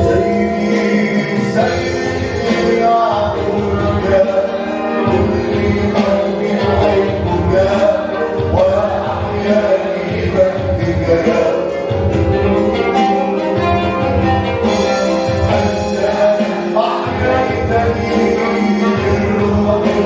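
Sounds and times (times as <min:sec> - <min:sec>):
worship music with singing: 0:00.0 - 0:20.0.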